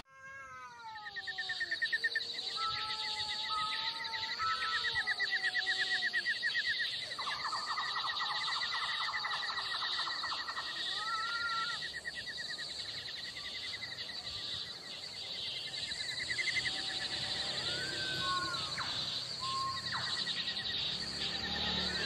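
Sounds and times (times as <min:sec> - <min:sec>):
rising and falling insect calls: 0:00.0 - 0:22.0
insect chirring: 0:00.3 - 0:22.0.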